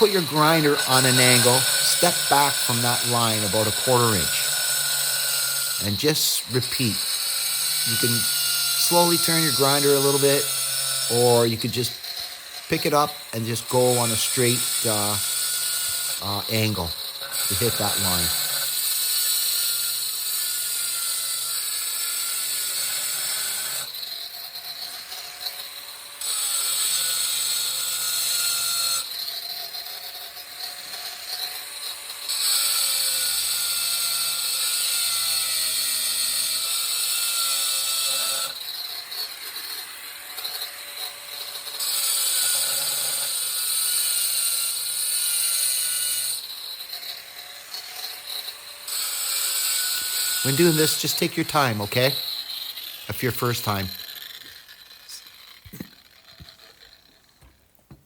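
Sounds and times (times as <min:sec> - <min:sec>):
angle grinder cutting tile: 0:00.0 - 0:57.8
grinder motor whine: 0:00.0 - 0:58.0.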